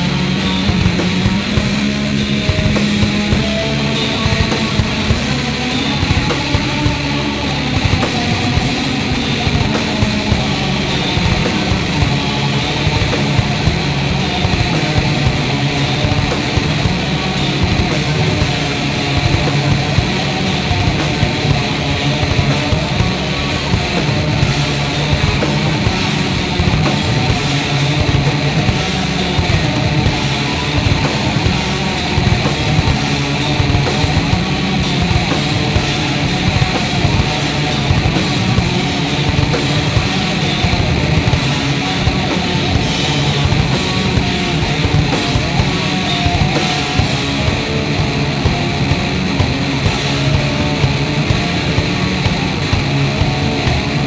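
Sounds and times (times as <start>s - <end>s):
distorted guitar: 0.0s - 54.0s
heavy noise rock: 0.0s - 54.0s.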